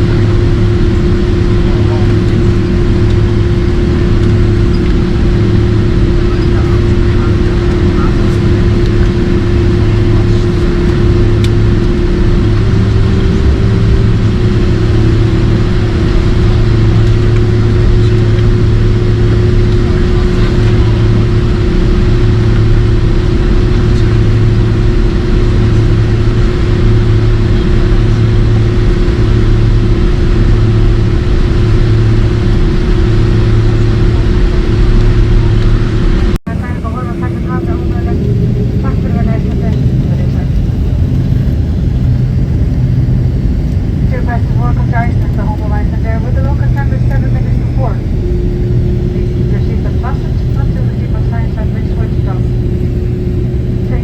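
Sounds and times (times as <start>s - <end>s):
low pulsing drone: 0.0s - 54.0s
vehicle engine hum inside: 0.0s - 54.0s.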